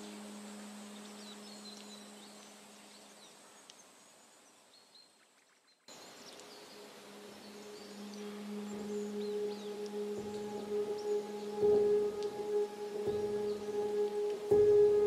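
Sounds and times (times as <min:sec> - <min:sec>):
ambient music low tone: 0:00.0 - 0:03.4, 0:06.1 - 0:15.0
quiet hiss: 0:00.0 - 0:15.0.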